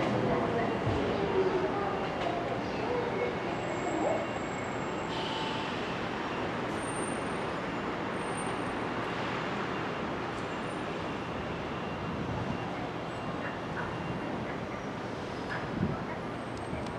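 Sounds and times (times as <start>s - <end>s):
traffic rumble: 0.0s - 16.9s.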